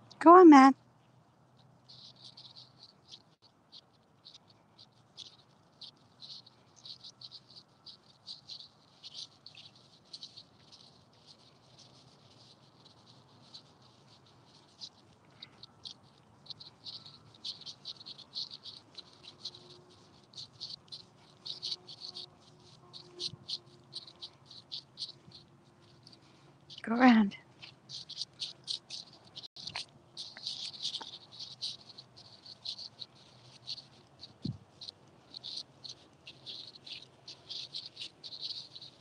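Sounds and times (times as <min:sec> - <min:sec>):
small animals chirping: 0:00.0 - 0:39.0.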